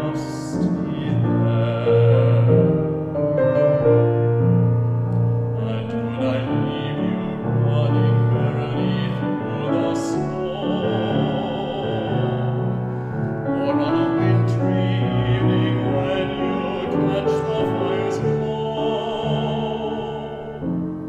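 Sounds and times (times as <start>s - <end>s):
baritone singing: 0.0s - 21.0s
piano accompaniment: 0.0s - 21.0s.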